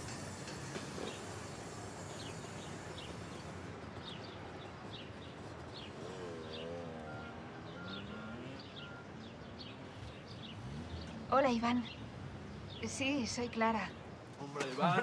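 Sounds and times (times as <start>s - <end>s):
city traffic hum: 0.0s - 15.0s
small birds chirping: 0.1s - 14.5s.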